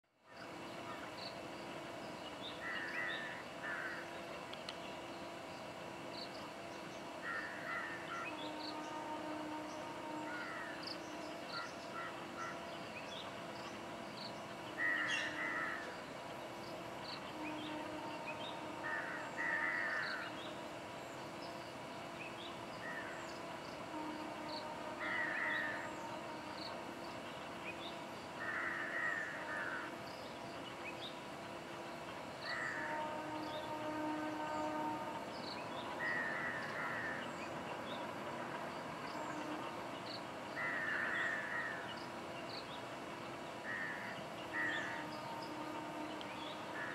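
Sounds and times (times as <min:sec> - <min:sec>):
faint hum: 0:00.3 - 0:46.9.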